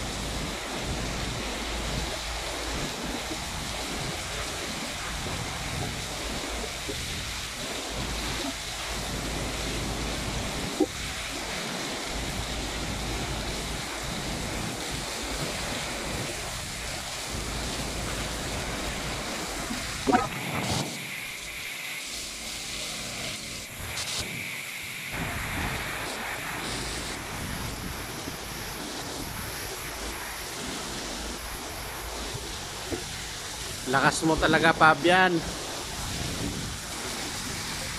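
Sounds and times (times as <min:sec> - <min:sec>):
wind buffeting microphone: 0:00.0 - 0:21.6, 0:25.1 - 0:37.9
wind gusting: 0:00.0 - 0:22.6, 0:23.6 - 0:37.9
heavy rain pouring: 0:00.0 - 0:37.9.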